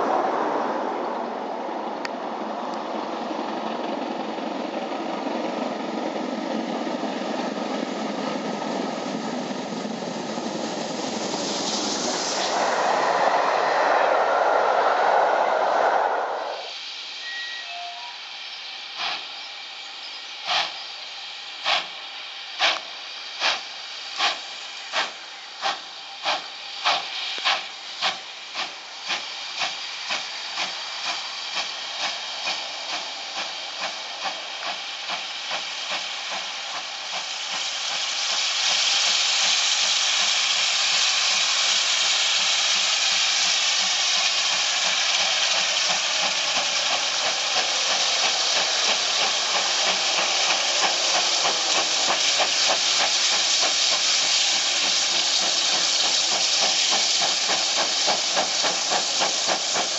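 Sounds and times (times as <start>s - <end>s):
steam locomotive exhaust beats: 1.5s - 59.9s
loud hiss of escaping steam: 6.4s - 59.9s.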